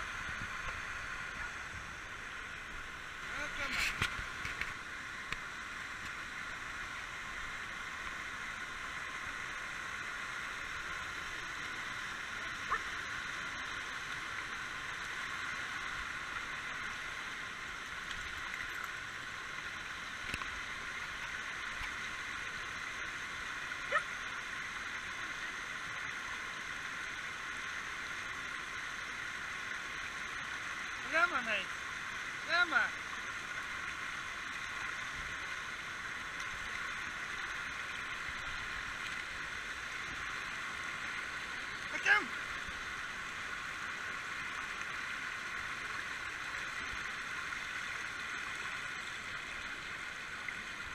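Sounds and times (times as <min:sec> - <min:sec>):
stream rushing over stones: 0:00.0 - 0:50.9.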